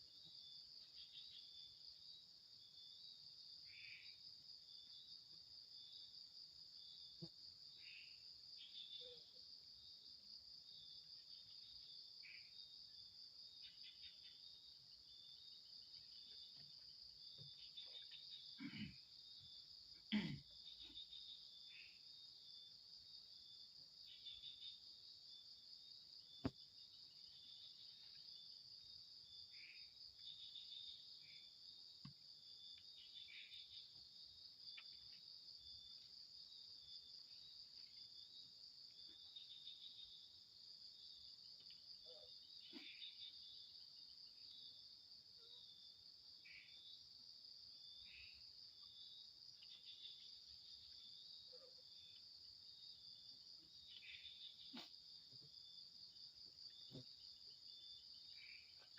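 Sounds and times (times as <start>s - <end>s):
crickets trilling: 0.0s - 58.9s
insect chirps: 0.0s - 58.9s.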